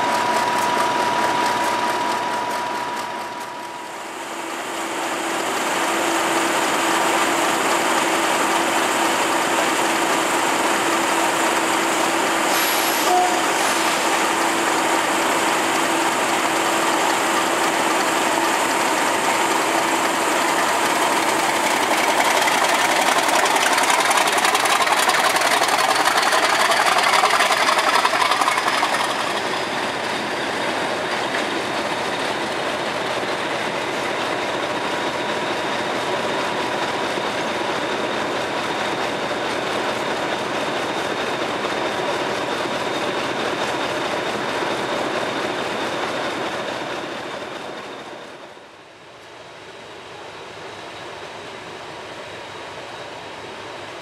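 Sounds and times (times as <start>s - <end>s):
diesel locomotive engine idling: 0.0s - 45.5s.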